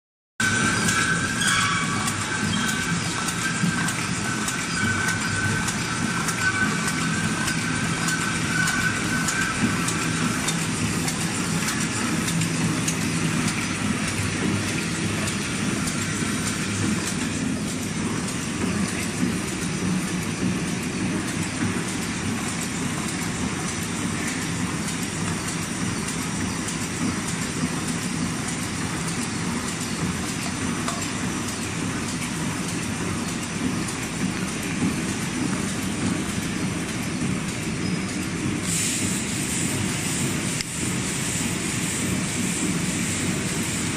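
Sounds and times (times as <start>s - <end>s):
high steady whine: 0.4s - 43.9s.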